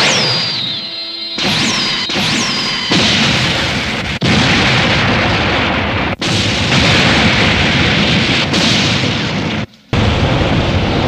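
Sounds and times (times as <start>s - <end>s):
explosion sound effects: 1.4s - 11.0s.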